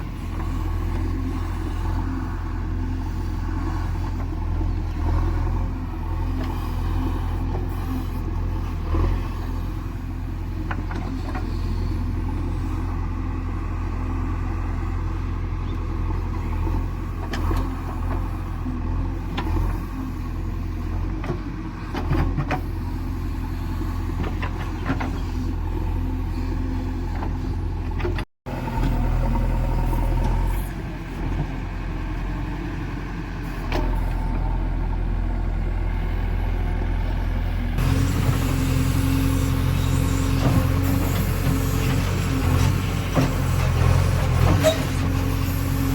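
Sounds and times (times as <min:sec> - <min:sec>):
heavy diesel engine droning: 0:00.0 - 0:45.9.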